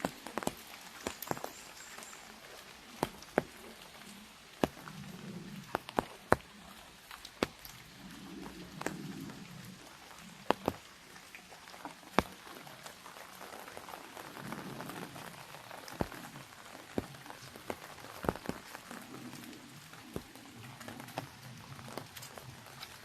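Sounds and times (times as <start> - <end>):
heavy raindrops tapping: 0.0 - 23.0
rain pattering on umbrella: 0.0 - 23.0.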